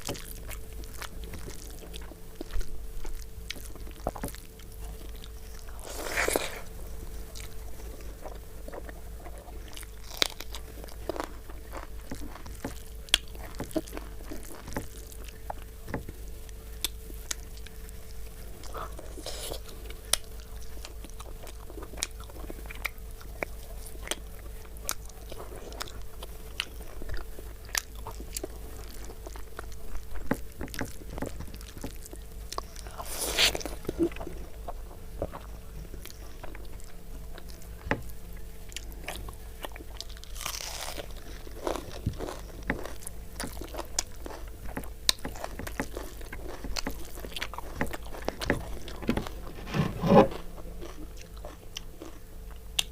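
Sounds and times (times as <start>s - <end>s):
chewing with wet smacks: 0.0s - 49.5s, 50.3s - 52.9s
faint electrical hum: 0.0s - 52.9s.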